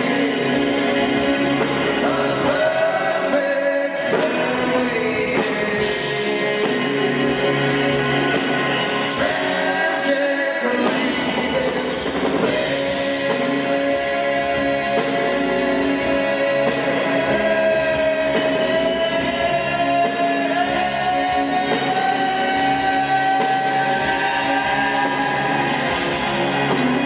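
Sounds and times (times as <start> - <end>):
live acoustic band: 0.0 - 27.0.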